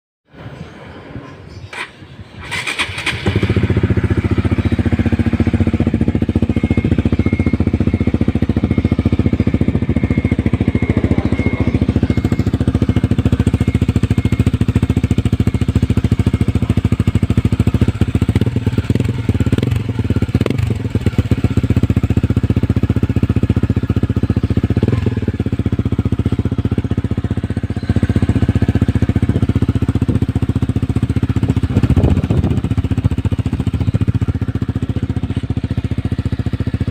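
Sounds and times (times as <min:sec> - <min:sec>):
motorcycle engine idling: 0:01.6 - 0:36.9.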